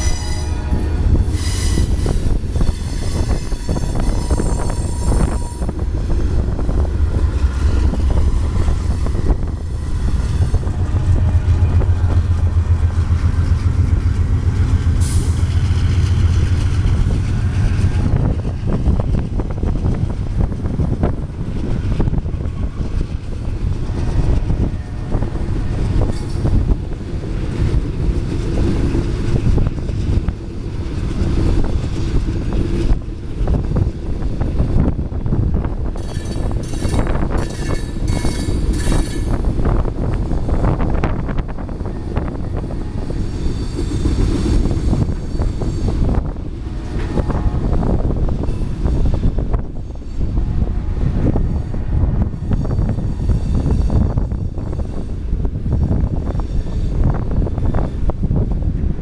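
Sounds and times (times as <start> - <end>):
train wheel squeal: 0.0 - 58.6
diesel locomotive hum: 0.0 - 59.0
freight cars rattling on rails: 0.0 - 59.0.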